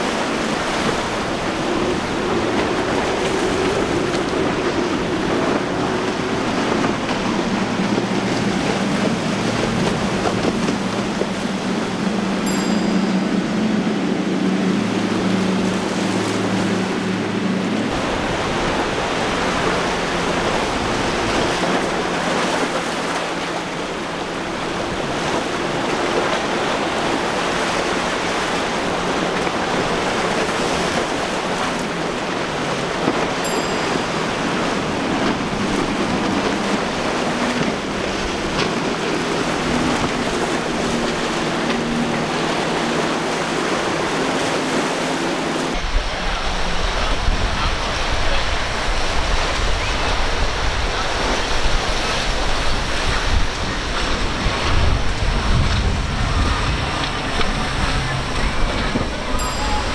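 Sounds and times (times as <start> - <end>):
faint boat engine drone: 0.0 - 59.9
waves and hull spray rushing: 0.0 - 59.9.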